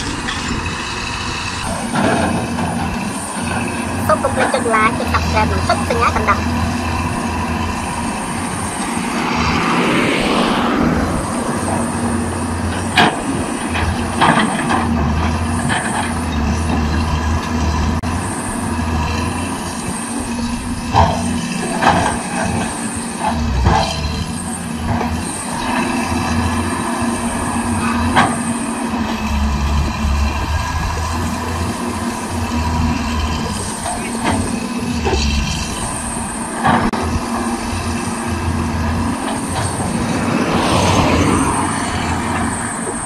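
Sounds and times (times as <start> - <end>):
excavator diesel engine droning: 0.0 - 43.0.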